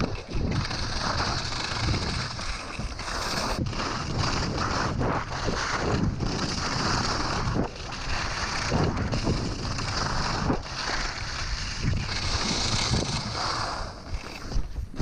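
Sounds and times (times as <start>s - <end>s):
skis scraping on icy snow: 0.0s - 15.0s
wind noise on microphone: 0.0s - 15.0s.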